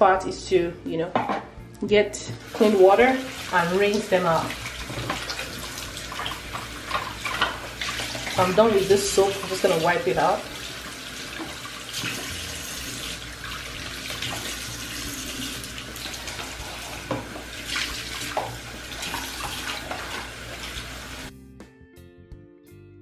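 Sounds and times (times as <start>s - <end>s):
sink faucet running: 2.2s - 21.3s.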